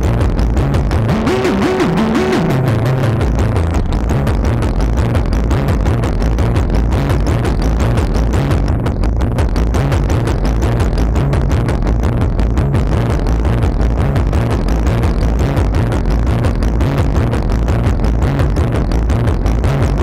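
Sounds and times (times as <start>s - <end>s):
techno synthesizer sequence: 0.0s - 20.0s.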